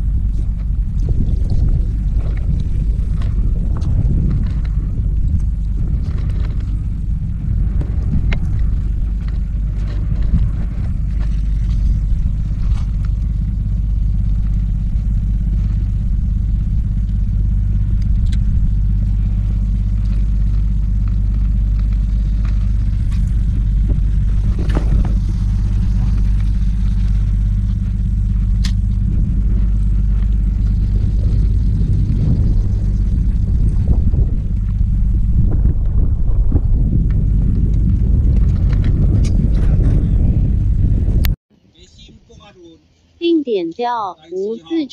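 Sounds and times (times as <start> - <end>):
wind buffeting microphone: 0.0 - 41.4.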